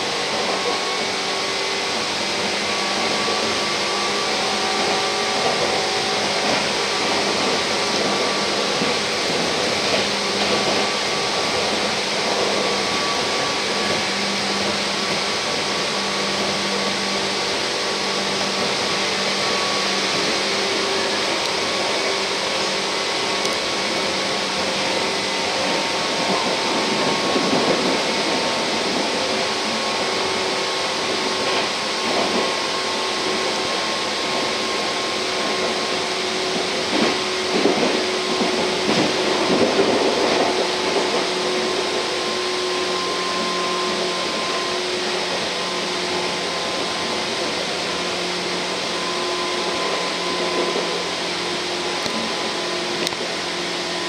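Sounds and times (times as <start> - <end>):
electric train cabin rumble: 0.0 - 54.0.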